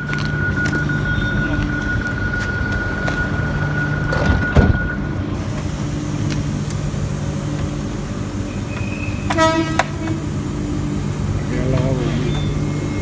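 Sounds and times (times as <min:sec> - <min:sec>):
electric traction hum: 0:00.0 - 0:13.0.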